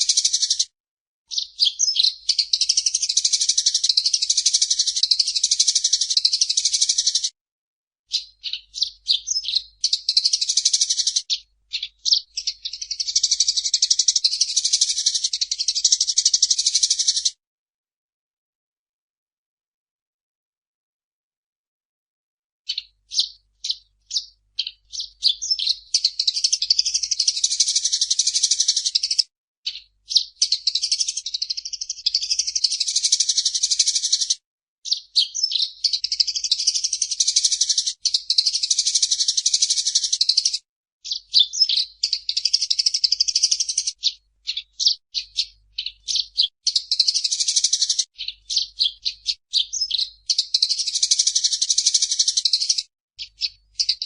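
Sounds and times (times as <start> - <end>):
sparrow chattering song: 0.0 - 0.7, 1.3 - 7.3, 8.1 - 17.4, 22.7 - 54.0.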